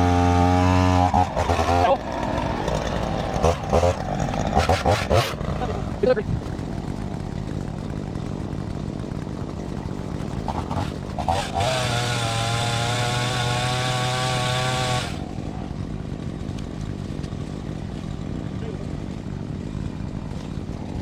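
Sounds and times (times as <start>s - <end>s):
chainsaw engine idling and revving: 0.0s - 21.0s.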